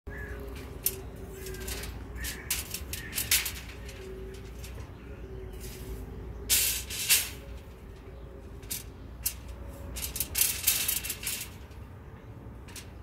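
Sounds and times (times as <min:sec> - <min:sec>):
metallic scraping and rattling: 0:00.1 - 0:13.0.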